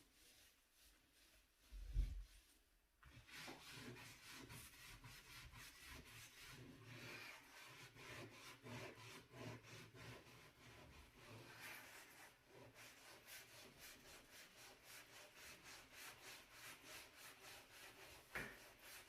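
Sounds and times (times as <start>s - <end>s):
brush scrubbing stovetop: 0.0s - 19.0s.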